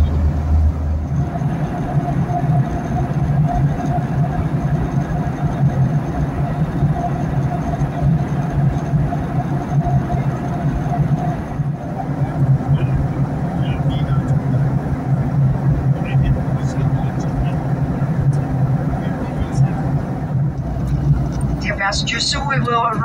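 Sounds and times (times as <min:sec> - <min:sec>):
airliner cabin engine drone: 0:00.0 - 0:23.0.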